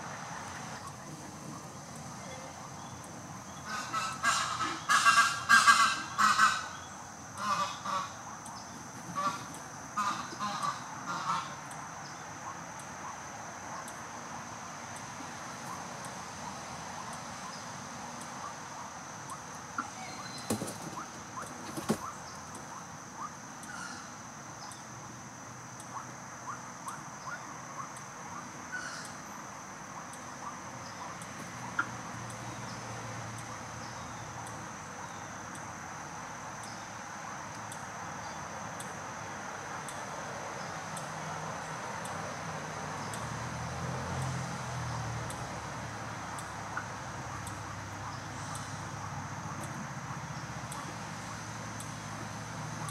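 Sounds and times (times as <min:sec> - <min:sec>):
outdoor background hiss: 0:00.0 - 0:52.9.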